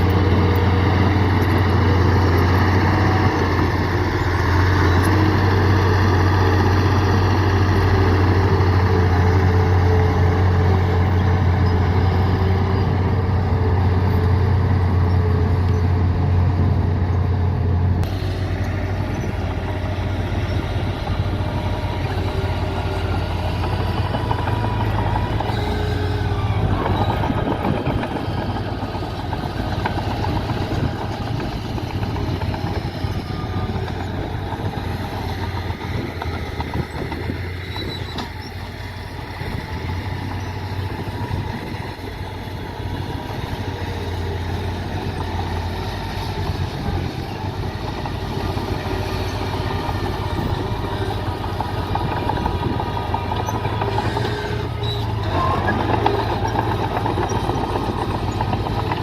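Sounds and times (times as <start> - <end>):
diesel construction machinery drone: 0.0 - 59.0.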